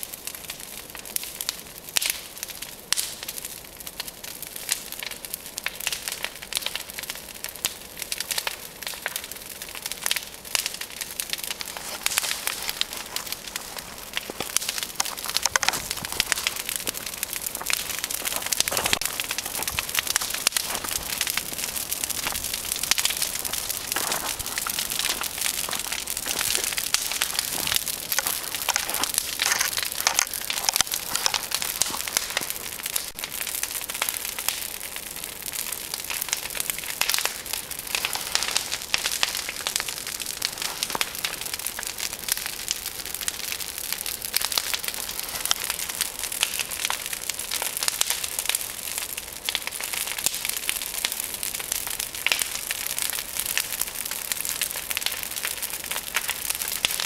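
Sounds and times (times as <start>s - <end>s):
brush fire crackling and popping: 0.0s - 57.0s.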